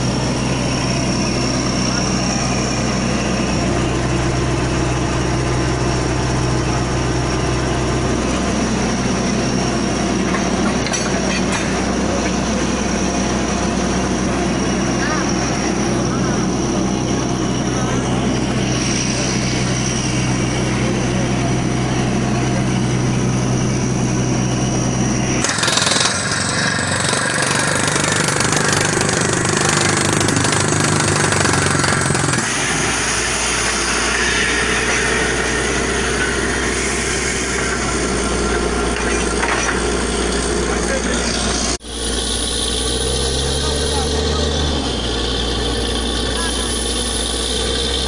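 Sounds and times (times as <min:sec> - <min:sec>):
drilling rig running: 0:00.0 - 0:48.0.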